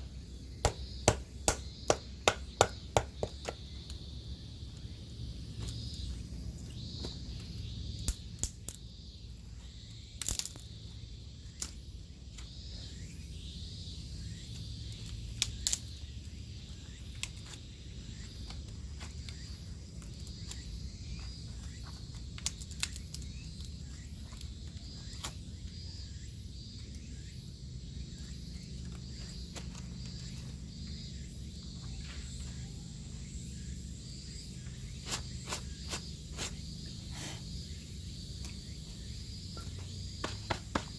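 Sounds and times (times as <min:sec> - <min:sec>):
faint insect chirring: 0:00.0 - 0:40.9
outdoor background noise: 0:00.0 - 0:40.9.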